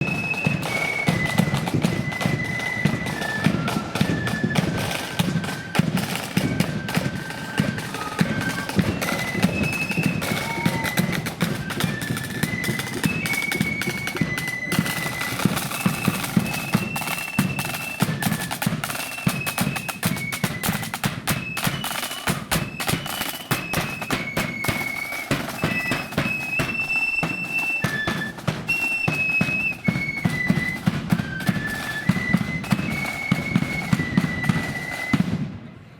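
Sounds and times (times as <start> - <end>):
flutes playing melody: 0.0 - 35.5
snare drum: 0.0 - 35.6.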